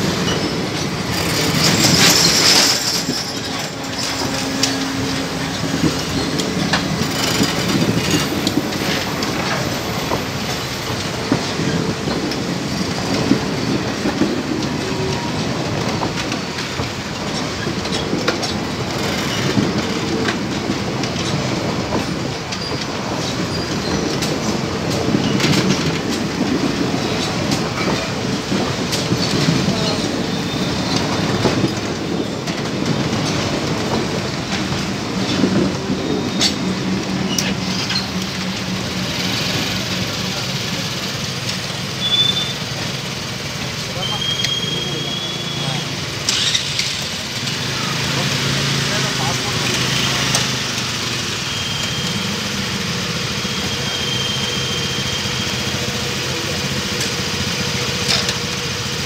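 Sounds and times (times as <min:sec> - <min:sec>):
train coaches rumbling past: 0:00.0 - 0:59.0
wheels clattering over rails: 0:00.0 - 0:59.0.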